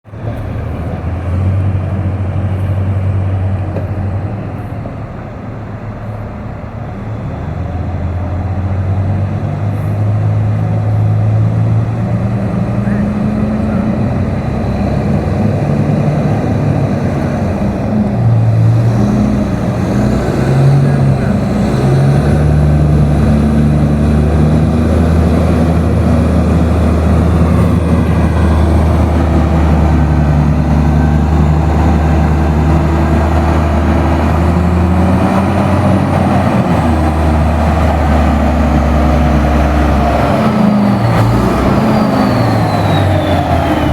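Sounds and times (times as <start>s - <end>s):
large diesel engine running: 0.0s - 43.9s.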